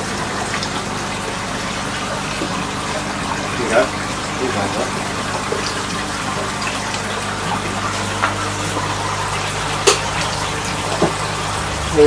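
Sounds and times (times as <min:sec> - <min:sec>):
water pouring into tank: 0:00.0 - 0:12.0.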